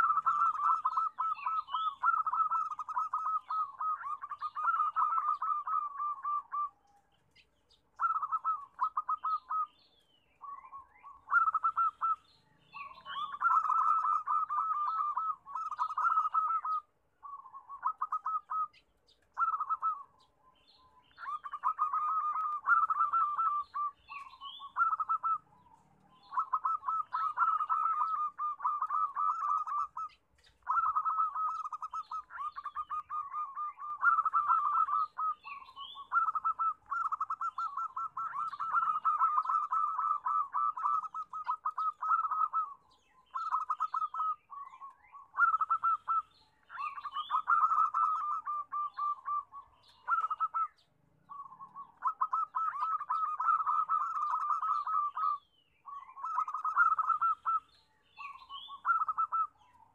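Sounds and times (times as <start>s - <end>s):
doves cooing in staccato trills: 0.0s - 9.7s, 10.4s - 20.4s, 21.1s - 59.9s.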